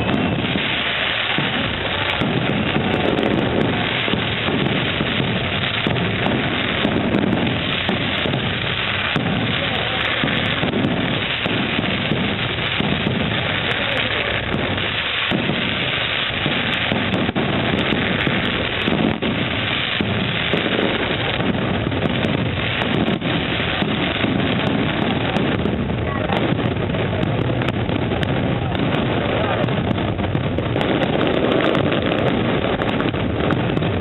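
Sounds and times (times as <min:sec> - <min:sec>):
fireworks bangs and crackle: 0:00.0 - 0:34.0.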